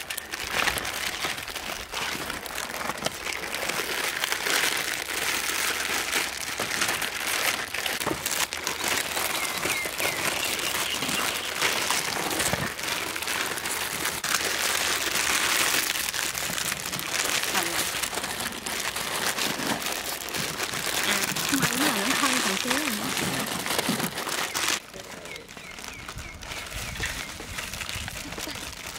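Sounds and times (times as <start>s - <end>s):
plastic wrappers crinkling: 0.0s - 28.9s.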